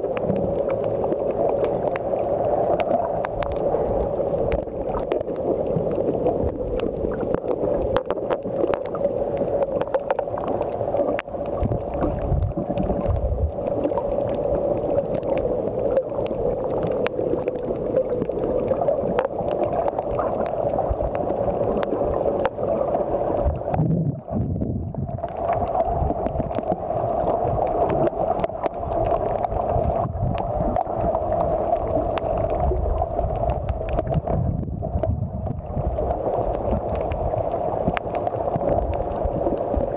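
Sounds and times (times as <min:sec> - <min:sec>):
faint underwater clicks: 0:00.0 - 0:39.9
underwater rushing hum: 0:00.0 - 0:39.9.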